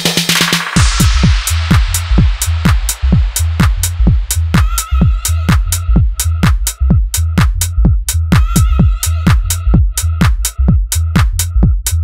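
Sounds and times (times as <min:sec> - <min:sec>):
crisp hi-hats: 0:00.0 - 0:12.0
electronic dance music: 0:00.0 - 0:12.0
kick drum beat: 0:00.0 - 0:12.0
deep sustained bass: 0:00.8 - 0:12.0.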